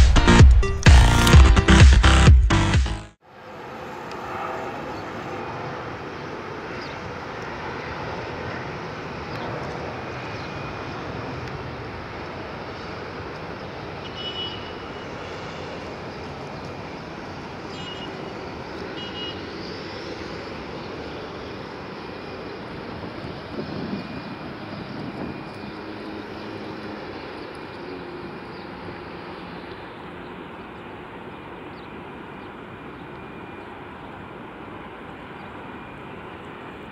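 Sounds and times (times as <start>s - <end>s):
jet engines at takeoff power: 3.2s - 36.9s.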